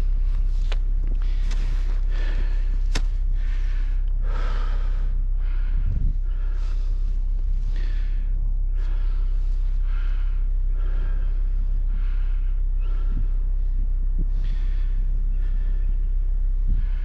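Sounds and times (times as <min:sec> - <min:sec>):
person breathing hard: 0:00.0 - 0:17.0
steady low rumble: 0:00.0 - 0:17.0.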